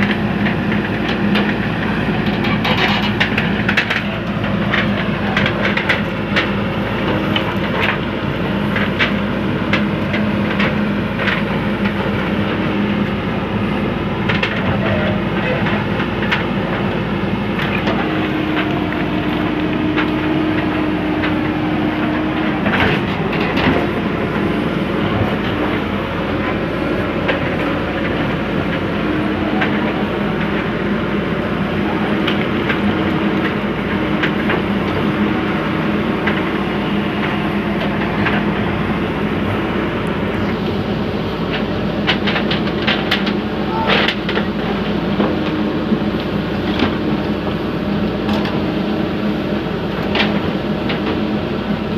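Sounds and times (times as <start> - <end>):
digger diesel engine running: 0.0 - 51.9.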